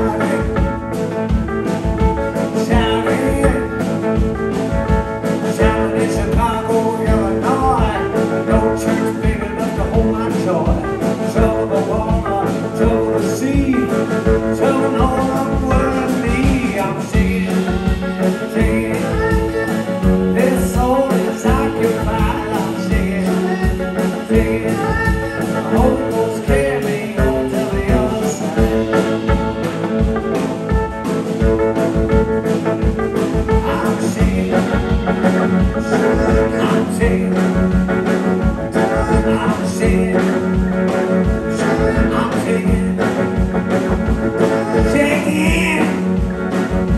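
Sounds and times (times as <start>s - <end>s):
live blues band: 0.0s - 46.9s.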